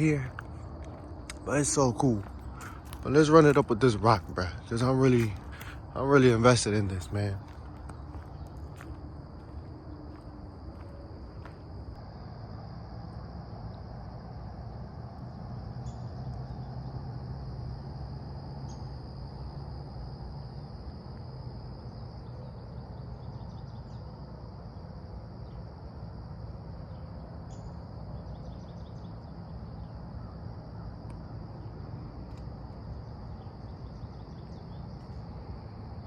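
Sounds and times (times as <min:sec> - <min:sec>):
insects droning: 0:00.0 - 0:36.0
low outdoor rumble: 0:00.0 - 0:36.0.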